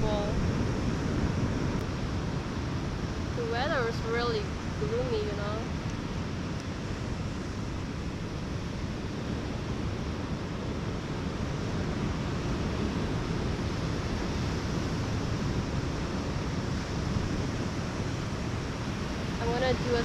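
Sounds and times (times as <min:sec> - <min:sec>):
ocean surf washing on beach: 0:00.0 - 0:20.0
wind on microphone: 0:00.0 - 0:20.0.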